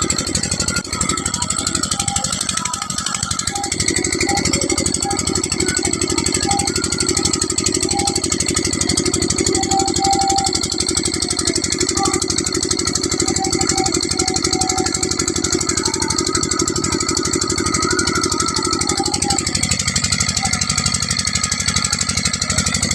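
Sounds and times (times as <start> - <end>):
engine running under load: 0.0 - 22.9.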